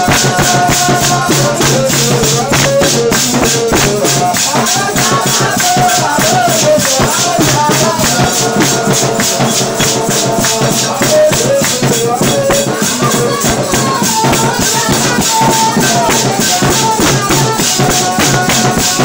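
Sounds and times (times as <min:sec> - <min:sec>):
shakers beating: 0:00.0 - 0:19.0
voices singing a melody: 0:00.0 - 0:19.0.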